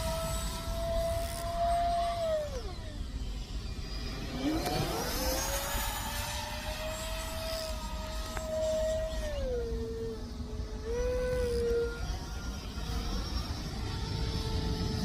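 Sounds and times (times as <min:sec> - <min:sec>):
model jet fan whining: 0:00.0 - 0:15.0.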